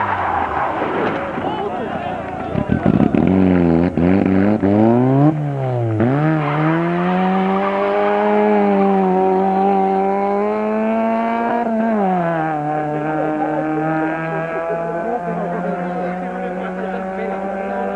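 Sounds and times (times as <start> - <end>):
race car engine accelerating: 0.0 - 17.9.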